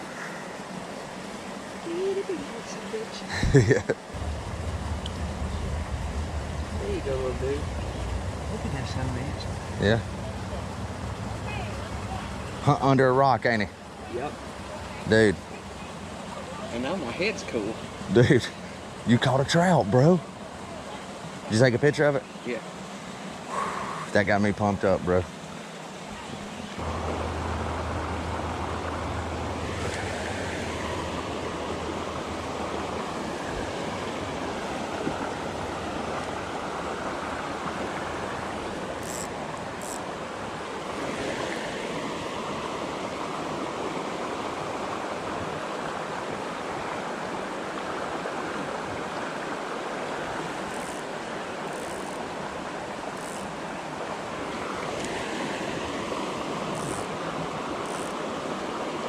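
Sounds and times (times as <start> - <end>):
creek water rushing over rocks: 0.0 - 59.0.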